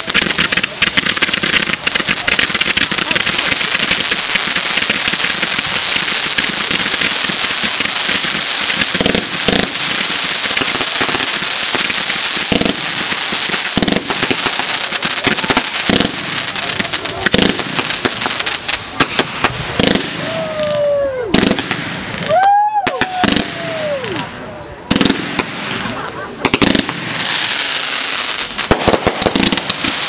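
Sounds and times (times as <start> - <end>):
firework shells bursting: 0.0 - 20.4, 24.9 - 30.0
firework pops and crackles: 0.0 - 24.3, 24.9 - 30.0
firework fountains hissing: 0.0 - 30.0.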